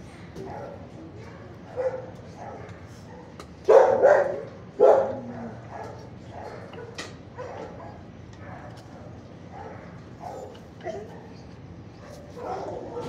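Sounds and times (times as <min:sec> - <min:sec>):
dogs barking: 0:00.4 - 0:13.0.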